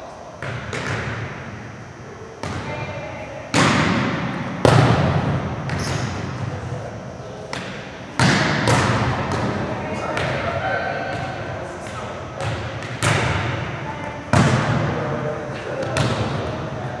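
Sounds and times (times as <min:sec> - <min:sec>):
volleyballs smacking in a gym: 0:00.0 - 0:17.0.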